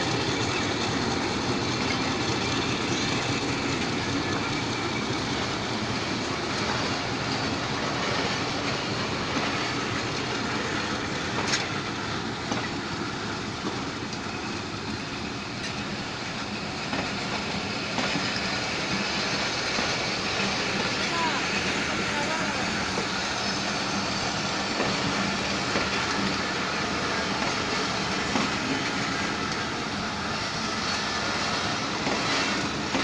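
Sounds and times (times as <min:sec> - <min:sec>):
train coaches rolling on rails: 0:00.0 - 0:33.0.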